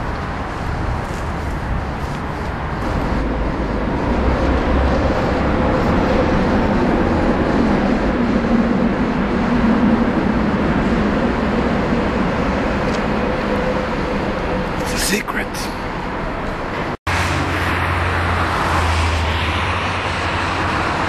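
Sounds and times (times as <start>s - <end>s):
low engine hum: 0.0s - 21.0s
vehicle traffic rumble: 0.0s - 21.0s.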